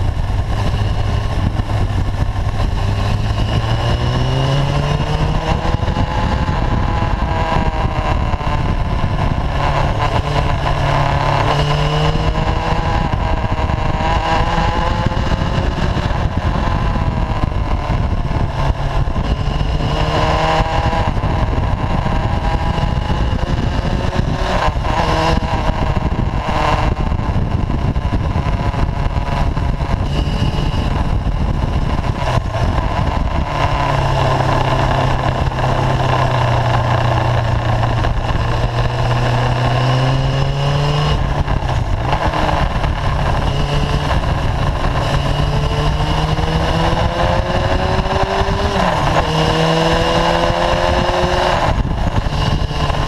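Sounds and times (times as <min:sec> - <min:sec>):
motorcycle engine running: 0:00.0 - 0:53.0
wind rush on microphone: 0:00.0 - 0:53.0.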